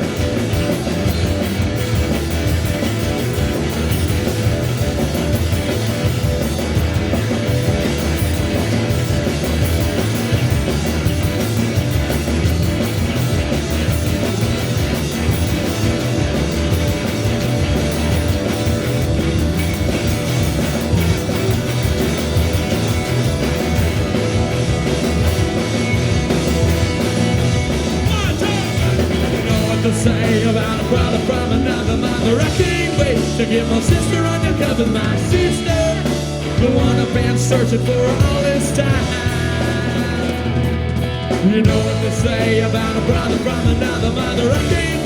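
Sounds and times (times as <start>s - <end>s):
bass guitar: 0.0s - 45.0s
drum kit: 0.0s - 45.0s
electric guitars: 0.0s - 45.0s.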